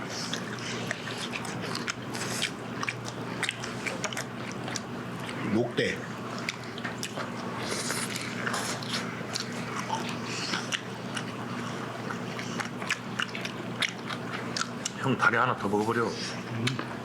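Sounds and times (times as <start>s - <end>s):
chewing and biting chicken: 0.0s - 17.0s.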